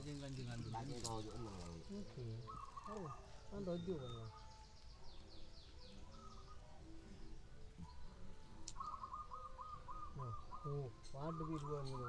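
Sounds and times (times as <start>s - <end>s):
doves cooing: 0.0s - 4.6s, 6.0s - 8.0s, 8.7s - 12.0s.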